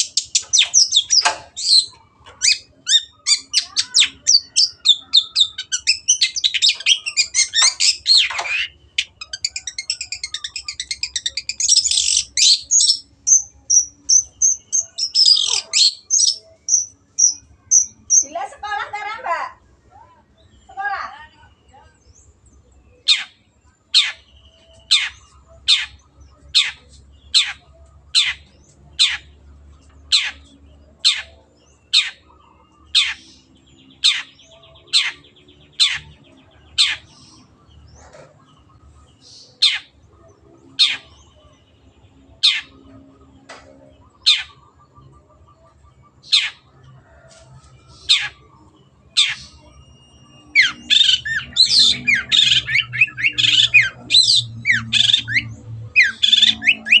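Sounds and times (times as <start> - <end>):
harsh chattering bird song: 0.0 - 57.0.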